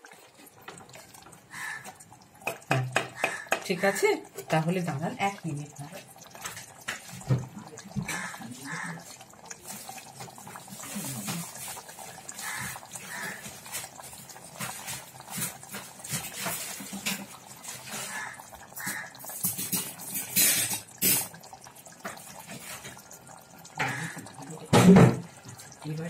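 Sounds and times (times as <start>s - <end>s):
curry bubbling in a pot: 0.0s - 26.0s.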